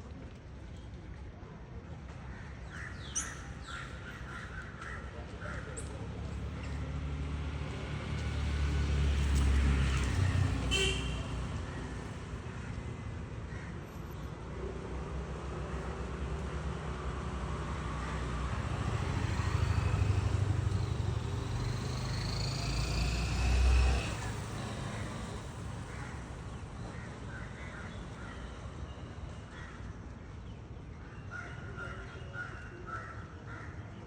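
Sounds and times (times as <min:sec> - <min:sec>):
vehicles passing by: 0:02.1 - 0:34.0.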